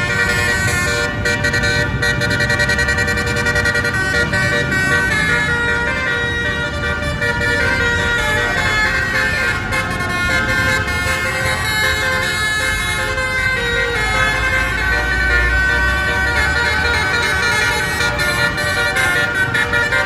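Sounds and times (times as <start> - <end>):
bus musical horn warbling chord: 0.0 - 20.0.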